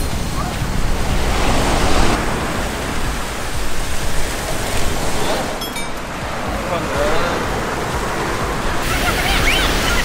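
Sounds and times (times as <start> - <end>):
rushing water: 0.0 - 10.0.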